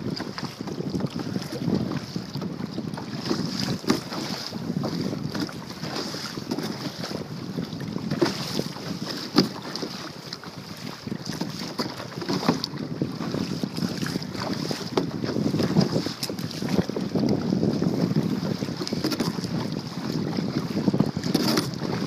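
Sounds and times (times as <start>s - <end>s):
paddle splashing in water: 0.0s - 22.0s
wind on microphone: 0.0s - 22.0s.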